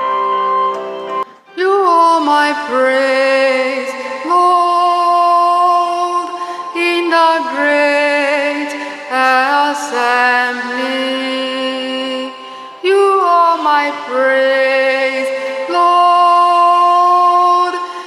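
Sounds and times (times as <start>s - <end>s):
person singing a psalm: 1.5s - 18.0s.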